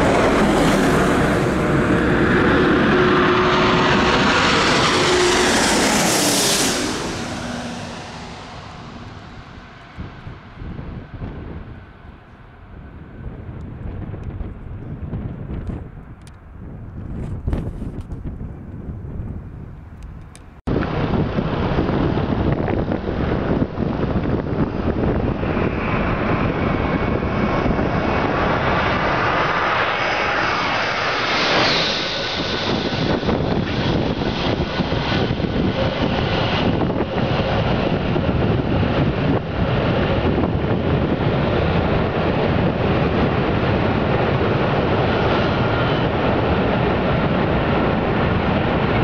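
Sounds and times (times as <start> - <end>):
airliner engines whining: 0.0 - 49.0
jet engine rumble: 0.0 - 49.0
wind buffeting microphone: 0.0 - 49.0.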